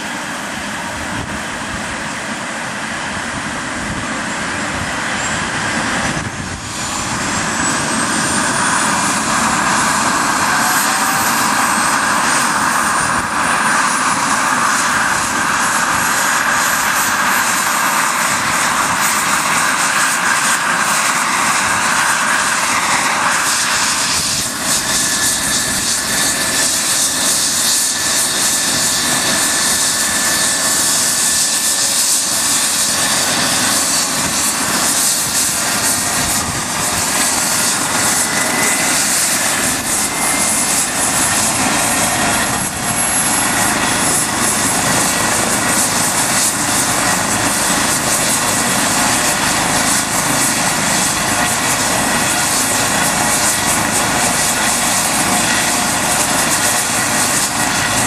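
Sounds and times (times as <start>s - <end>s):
helicopter engine rush and whine: 0.0s - 58.0s.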